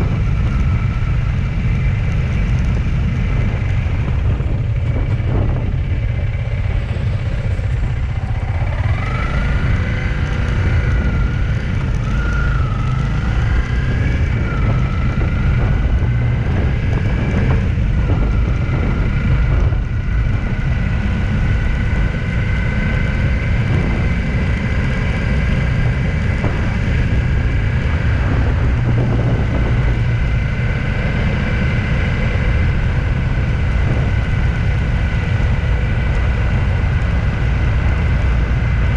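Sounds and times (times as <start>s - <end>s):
engine and road rumble: 0.0s - 38.9s
vehicle whining tone: 0.0s - 38.9s.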